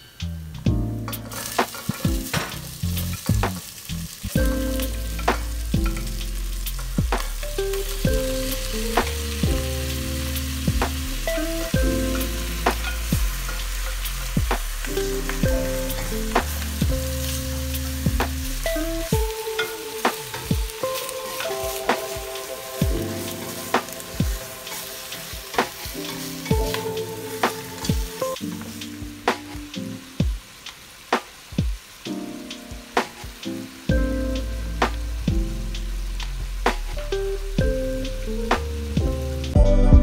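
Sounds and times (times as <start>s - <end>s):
meat and onions sizzling in a pot: 0.0s - 39.6s
soft background music: 0.6s - 30.6s, 31.7s - 40.0s.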